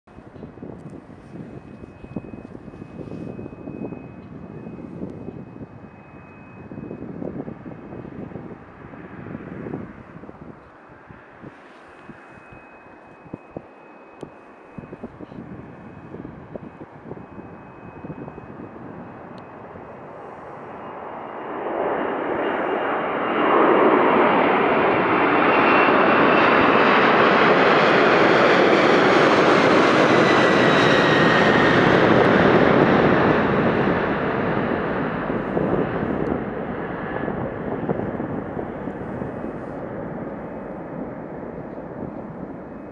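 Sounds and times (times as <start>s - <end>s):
jet plane passing overhead: 0.1s - 42.9s.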